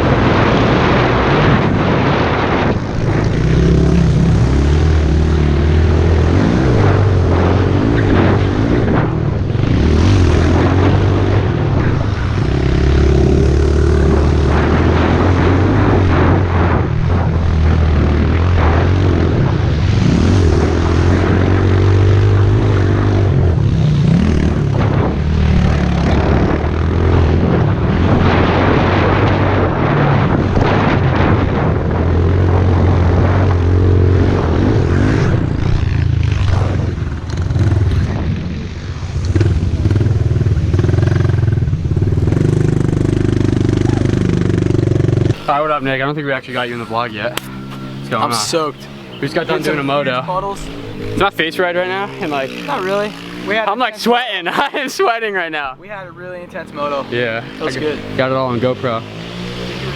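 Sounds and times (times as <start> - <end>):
small motorbike engine revving: 0.0 - 53.9, 56.8 - 59.9.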